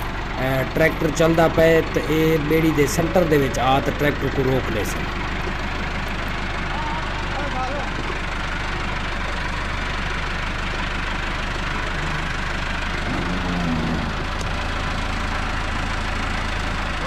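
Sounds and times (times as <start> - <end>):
tractor creeping over wooden planks: 0.0 - 17.0
tractor diesel engine at low revs: 0.0 - 17.0.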